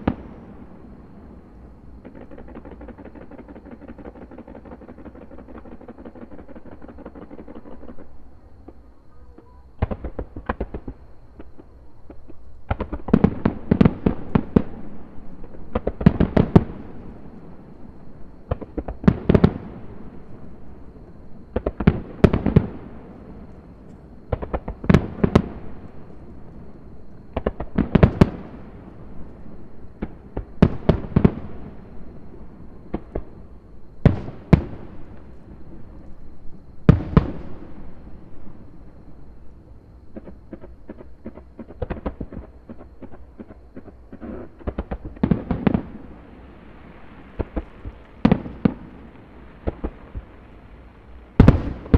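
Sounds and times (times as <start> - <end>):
rumble after firework bangs: 0.0 - 51.9.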